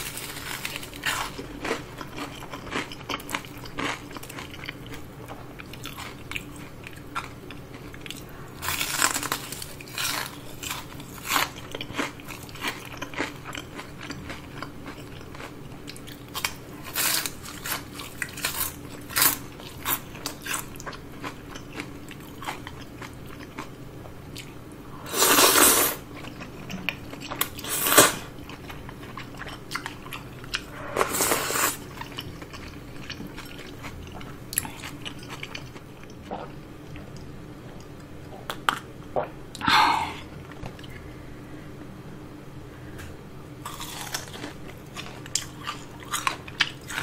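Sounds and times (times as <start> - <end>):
crunching fried food: 0.0 - 36.2, 43.6 - 47.0.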